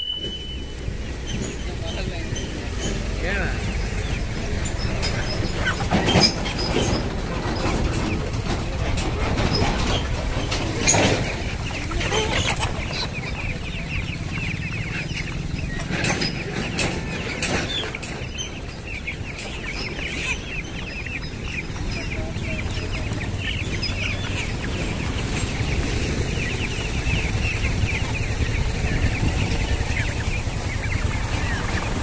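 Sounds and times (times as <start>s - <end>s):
chickens clucking: 0.0s - 32.0s
young guinea fowl chirping: 0.0s - 32.0s.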